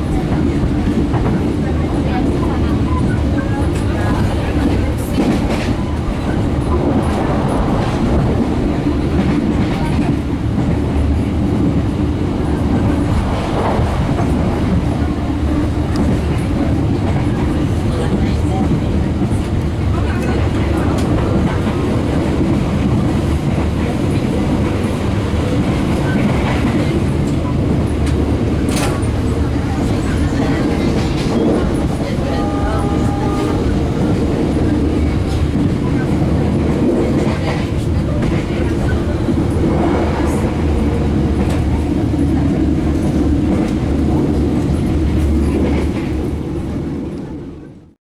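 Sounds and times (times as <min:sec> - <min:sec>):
train rumbling from inside coach: 0:00.0 - 0:48.0.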